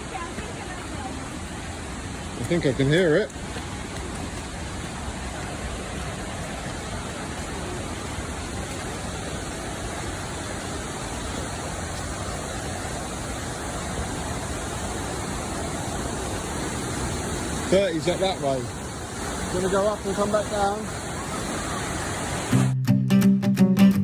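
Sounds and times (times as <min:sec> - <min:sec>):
waterfall roaring: 0:00.0 - 0:22.8.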